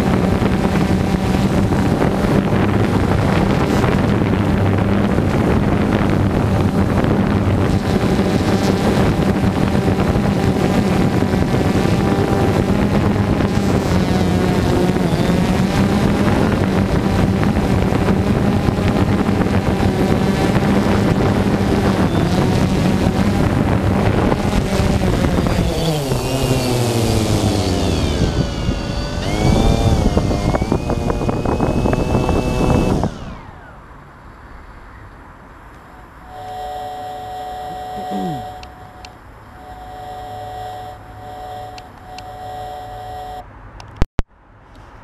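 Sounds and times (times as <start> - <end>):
drone propellers buzzing: 0.0 - 34.3, 35.7 - 43.4.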